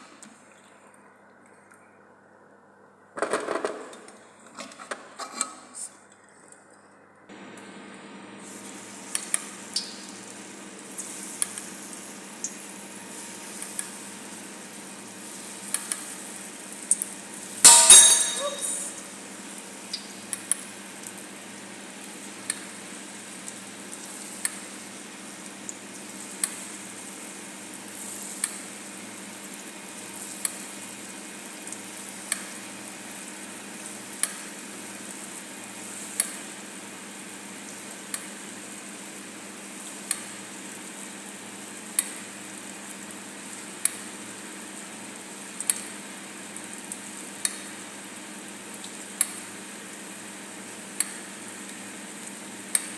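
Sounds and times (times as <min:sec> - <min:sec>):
dough frying in hot oil: 0:07.3 - 0:52.9.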